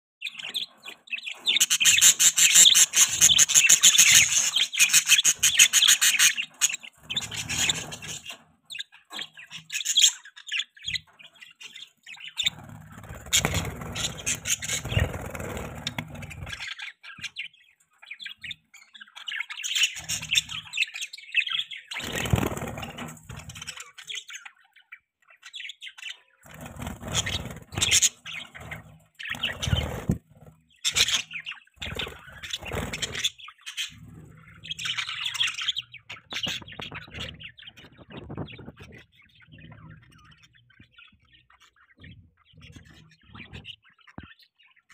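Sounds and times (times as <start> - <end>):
budgerigars chirping: 0.2 - 44.9.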